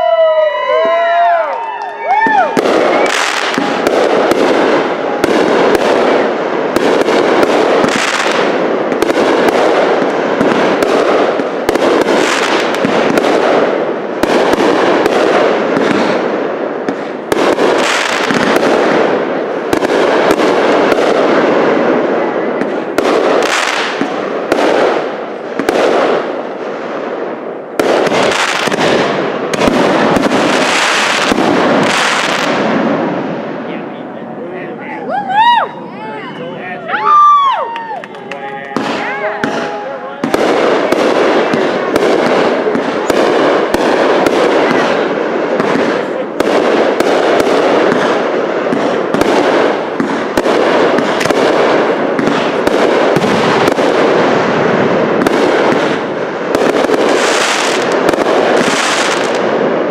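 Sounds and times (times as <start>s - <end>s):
fireworks bursting with loud bangs: 0.0s - 59.9s.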